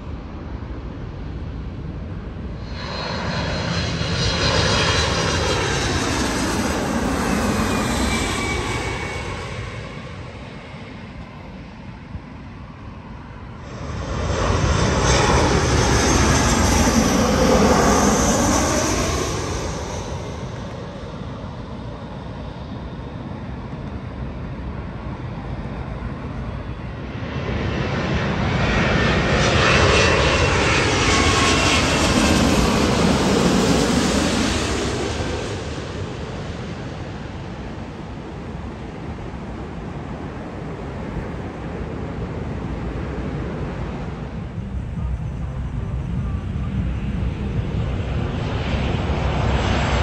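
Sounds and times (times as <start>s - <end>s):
jet airliners passing overhead: 0.0s - 50.0s.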